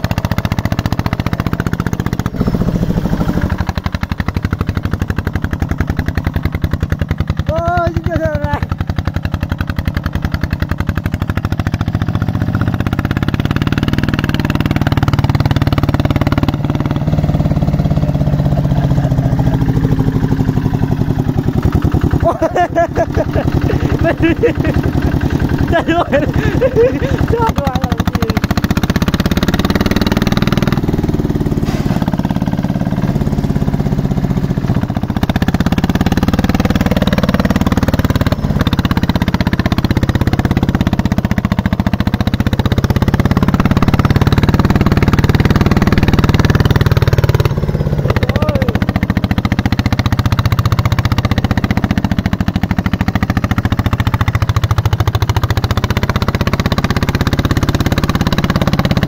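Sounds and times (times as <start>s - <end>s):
diesel engine chugging: 0.0s - 59.0s.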